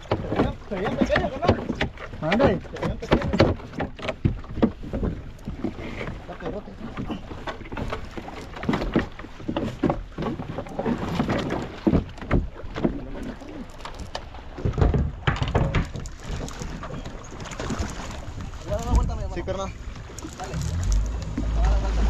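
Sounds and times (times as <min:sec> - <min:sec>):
water slapping against boat hull: 0:00.0 - 0:22.0.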